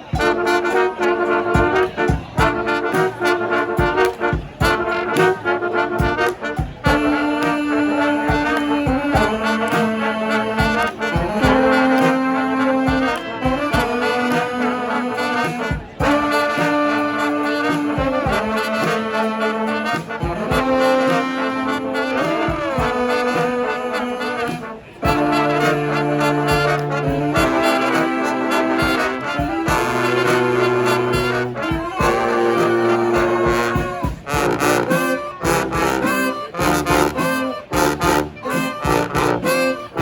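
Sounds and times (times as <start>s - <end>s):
brass band playing: 0.0s - 40.0s.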